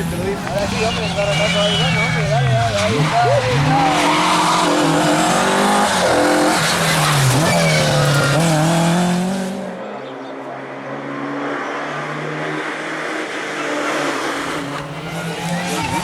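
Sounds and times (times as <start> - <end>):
car engine revving hard: 0.0 - 9.7, 11.9 - 16.0.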